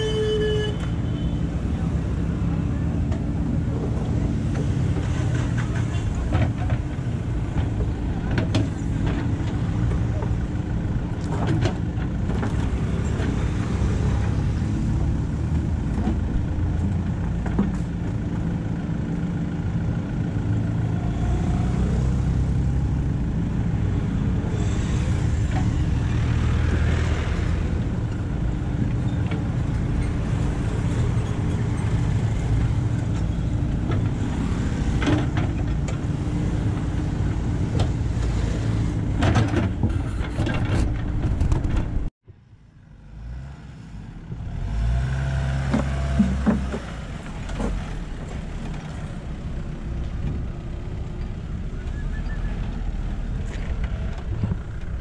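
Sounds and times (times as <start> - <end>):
diesel engine under load: 0.0 - 42.1, 42.7 - 55.0.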